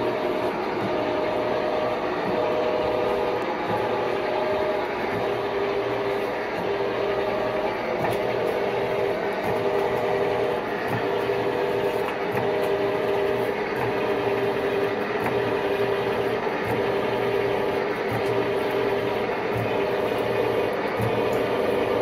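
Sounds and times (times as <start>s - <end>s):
metal lathe running: 0.0s - 22.0s.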